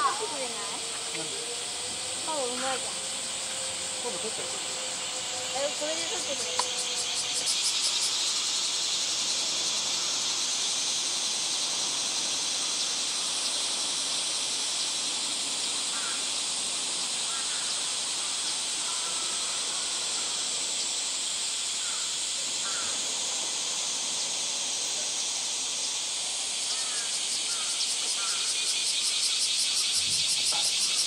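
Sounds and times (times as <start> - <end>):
cicadas chorus: 0.0 - 31.0.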